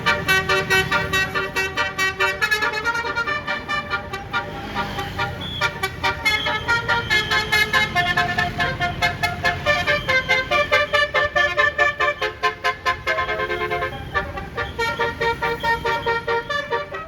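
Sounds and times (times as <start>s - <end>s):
bus engine running: 0.0s - 17.0s
multi-tone air horn melody: 0.0s - 17.0s.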